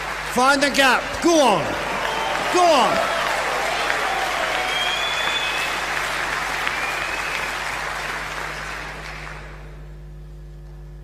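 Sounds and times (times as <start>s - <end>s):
audience applauding: 0.0s - 9.8s
mains hum: 0.0s - 11.0s.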